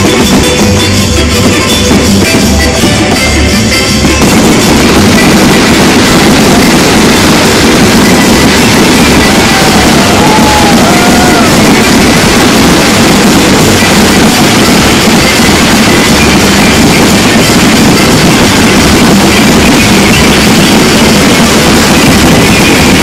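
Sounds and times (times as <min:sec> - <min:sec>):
firework whistles: 0:00.0 - 0:23.0
fireworks bangs and crackling: 0:00.0 - 0:23.0.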